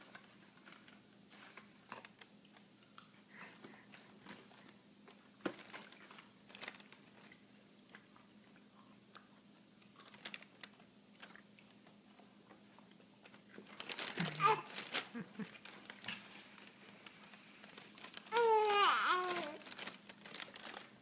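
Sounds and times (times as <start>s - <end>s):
small clicks and crackles: 0.0s - 3.1s, 3.9s - 21.0s.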